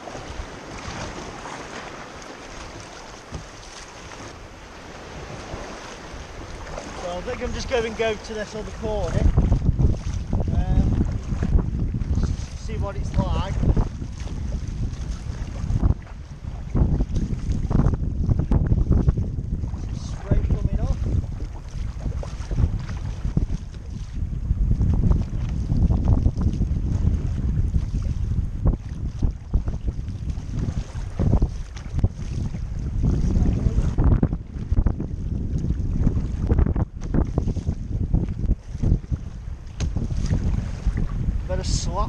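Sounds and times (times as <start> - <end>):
paddle strokes through water: 0.0 - 42.0
water splashing around kayak: 0.0 - 42.0
wind buffeting microphone: 0.0 - 42.0.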